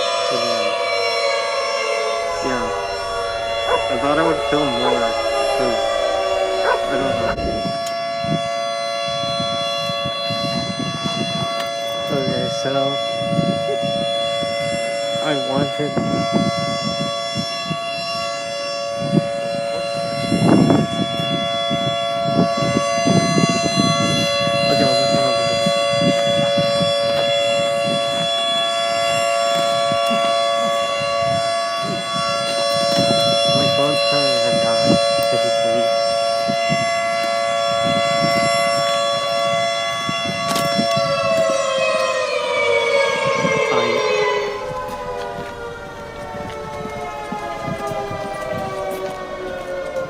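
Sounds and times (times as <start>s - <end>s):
air-raid siren steady tone: 0.0s - 50.0s
low rumbling microphone noise: 2.0s - 49.9s.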